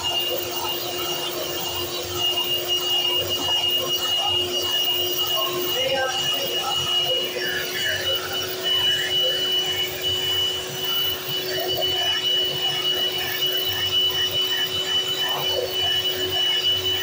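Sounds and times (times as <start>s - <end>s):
electric hand mixer whipping cream: 0.0s - 17.0s.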